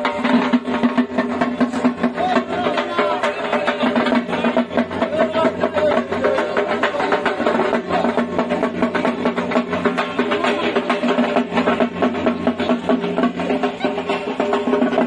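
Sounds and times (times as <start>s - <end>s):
barrel drums beaten with sticks: 0.0s - 15.0s.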